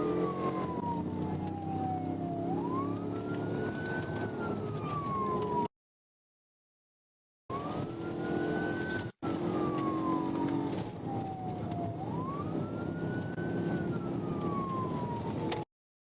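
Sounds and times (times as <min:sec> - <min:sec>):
car engine and road noise: 0:00.0 - 0:05.7, 0:07.5 - 0:15.6
police siren wailing: 0:00.0 - 0:05.7, 0:07.5 - 0:15.7.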